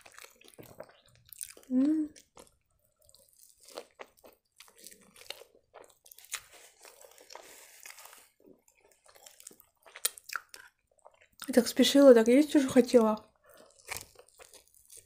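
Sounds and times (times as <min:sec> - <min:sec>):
chewing and crunching food: 0:00.0 - 0:11.8, 0:12.7 - 0:15.0.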